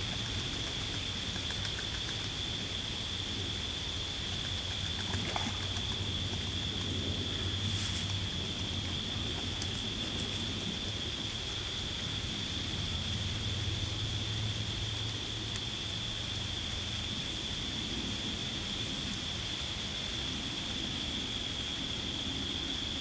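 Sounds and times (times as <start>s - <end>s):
even hiss: 0.0s - 23.0s.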